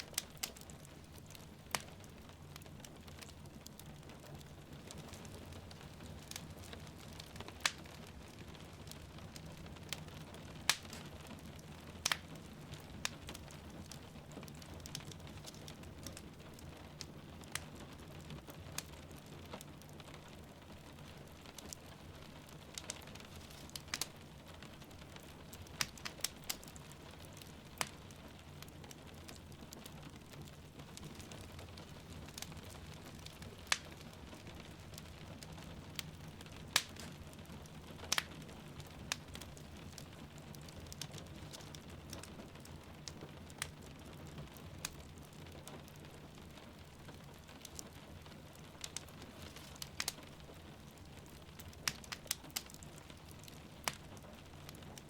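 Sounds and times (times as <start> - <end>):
fire popping: 0.0 - 55.0
steady rain: 0.0 - 55.0
wood fire crackling: 0.0 - 55.0.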